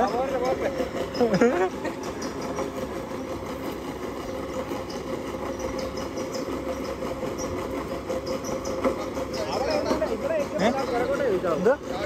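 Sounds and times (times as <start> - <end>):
water pump motor humming: 0.0 - 12.0.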